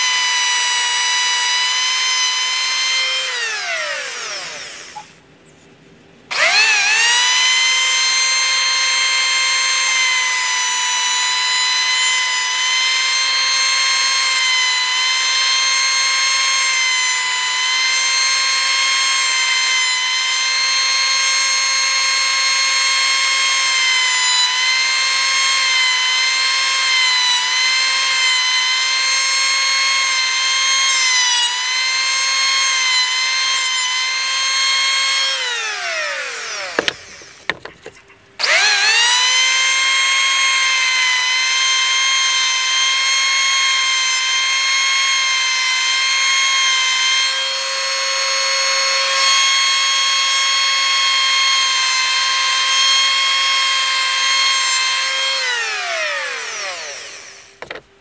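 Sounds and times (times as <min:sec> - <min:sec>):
electric grinder whining: 0:00.0 - 0:05.2, 0:06.3 - 0:58.0.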